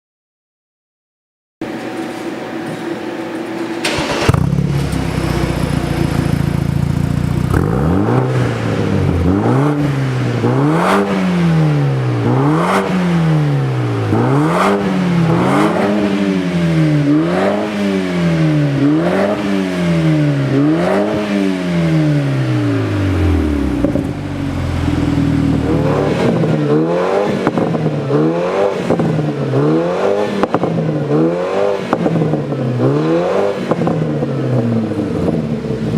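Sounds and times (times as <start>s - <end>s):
car engine idling and revving: 3.8s - 35.9s.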